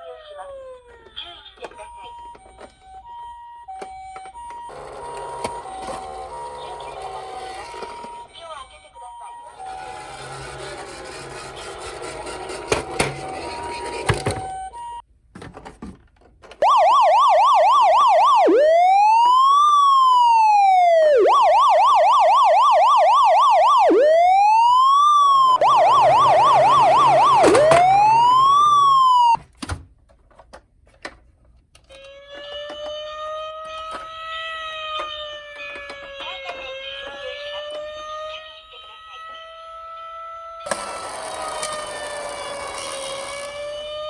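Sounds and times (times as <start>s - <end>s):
toy electronic siren: 0.0s - 15.0s, 16.6s - 29.4s, 31.9s - 44.0s.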